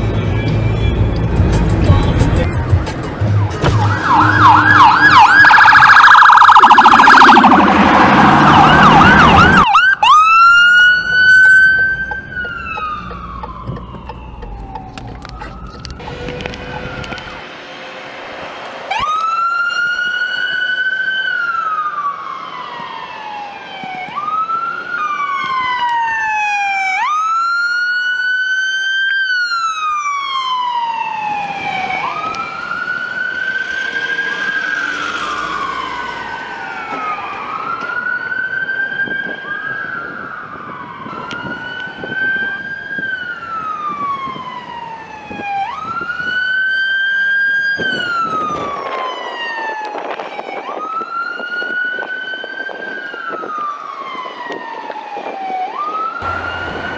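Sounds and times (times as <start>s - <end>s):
emergency sirens wailing: 0.0s - 56.9s.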